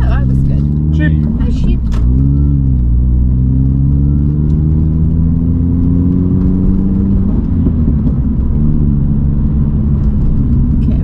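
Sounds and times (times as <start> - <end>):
car engine accelerating: 0.0 - 11.0
low road rumble: 0.0 - 11.0.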